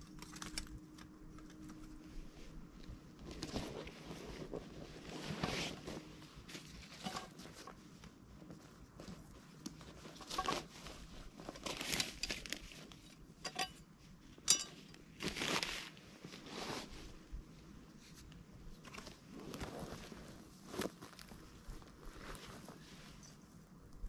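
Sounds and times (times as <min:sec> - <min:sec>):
clothing rustling: 0:00.4 - 0:13.7, 0:14.3 - 0:23.6.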